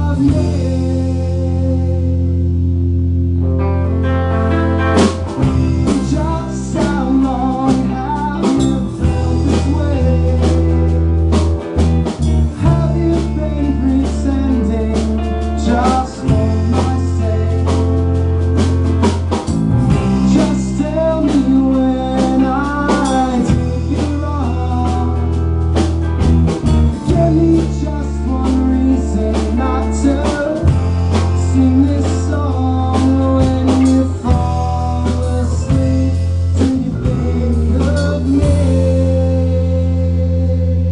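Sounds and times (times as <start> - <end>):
bass notes: 0.0 - 40.9
drums: 0.0 - 40.9
guitar: 0.0 - 40.9.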